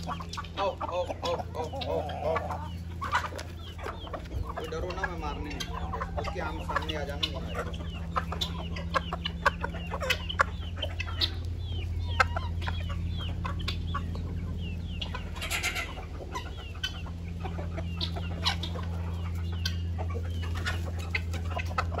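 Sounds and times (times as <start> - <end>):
chicks peeping: 0.0 - 22.0
poultry clucking: 0.0 - 22.0.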